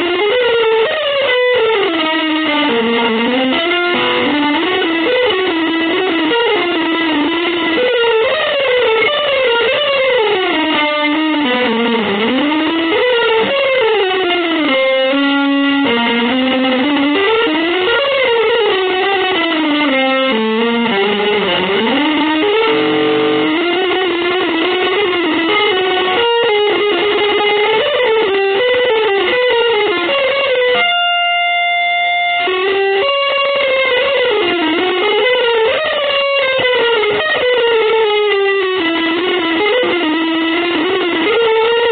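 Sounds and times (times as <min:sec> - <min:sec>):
free jazz lead line sliding: 0:00.0 - 0:41.9.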